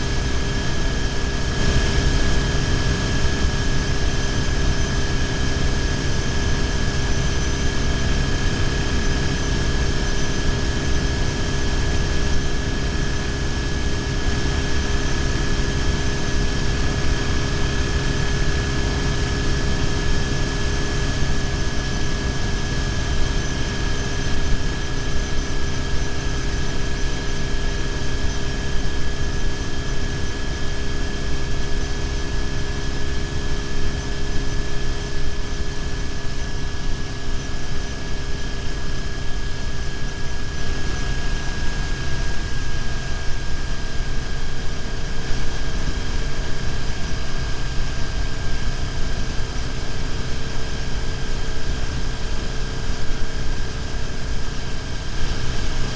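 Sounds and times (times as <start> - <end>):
faint high whine: 0.0 - 55.9.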